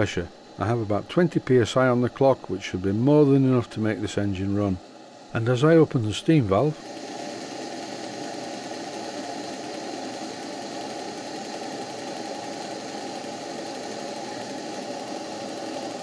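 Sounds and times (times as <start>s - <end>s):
model steam engine running: 0.0s - 16.0s
water pump working: 0.0s - 16.0s.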